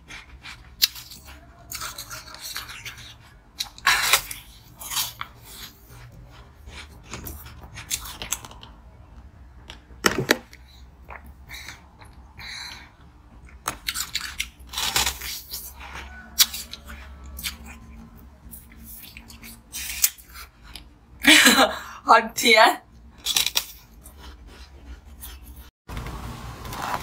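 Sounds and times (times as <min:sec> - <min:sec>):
chewing: 0:00.0 - 0:09.7, 0:10.5 - 0:21.0, 0:23.2 - 0:25.7.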